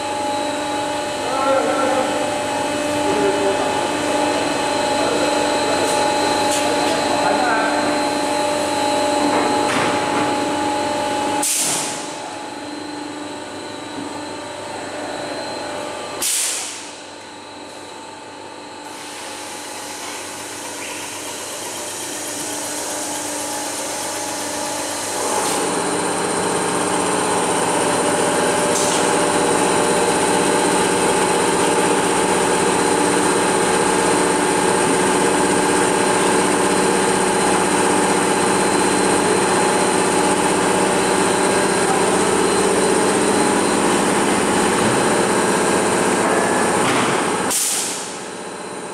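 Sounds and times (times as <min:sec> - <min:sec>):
machinery humming and whining: 0:00.0 - 0:48.9.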